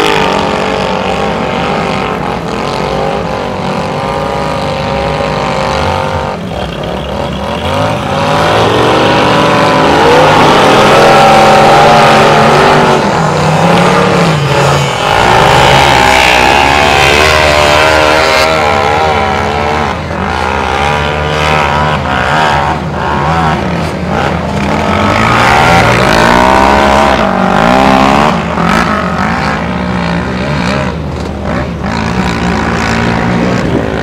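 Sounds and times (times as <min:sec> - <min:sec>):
off-road engines revving hard: 0:00.0 - 0:34.0.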